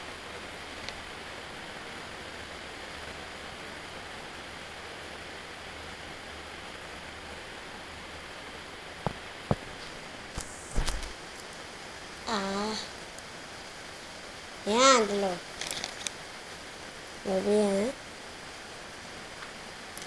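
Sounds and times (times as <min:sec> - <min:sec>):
room noise hiss: 0:00.0 - 0:20.0.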